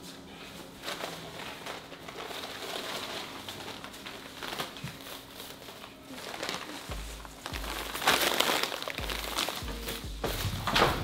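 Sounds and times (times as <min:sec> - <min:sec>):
plastic bags rustling and crinkling: 0:00.0 - 0:11.0.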